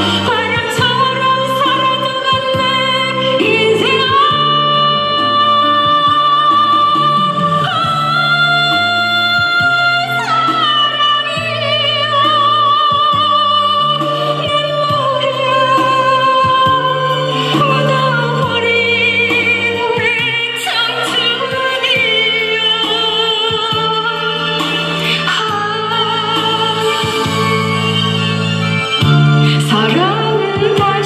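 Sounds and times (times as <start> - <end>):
instrumental backing track: 0.0 - 31.0
woman singing into microphone: 0.0 - 31.0.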